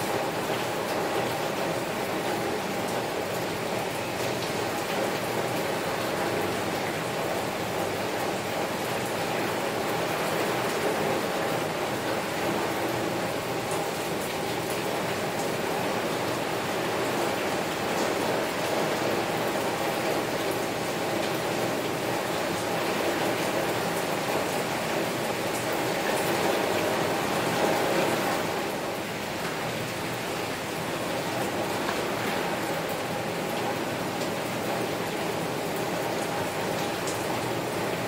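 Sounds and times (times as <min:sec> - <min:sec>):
heavy rain on a window: 0:00.0 - 0:38.0.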